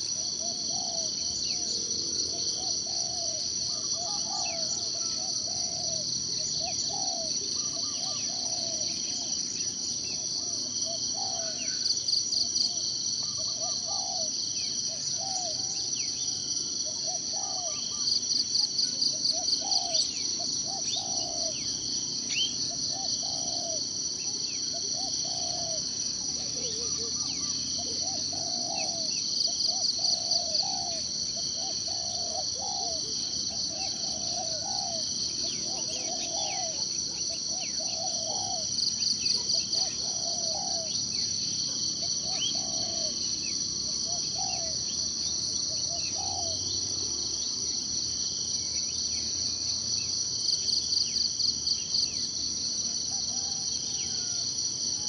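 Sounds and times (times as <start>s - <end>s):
high insect trill: 0.0s - 55.0s.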